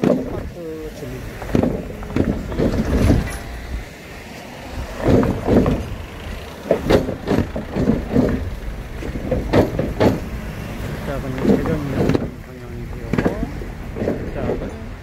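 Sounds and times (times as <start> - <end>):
cars passing: 0.0 - 15.0
wooden boards clattering under wheels: 0.0 - 15.0.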